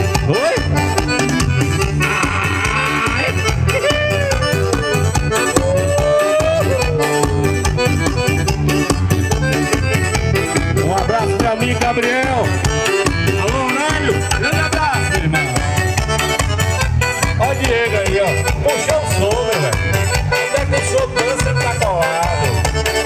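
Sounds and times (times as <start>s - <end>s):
accordion solo: 0.0s - 23.0s
steady percussion beat: 0.0s - 23.0s.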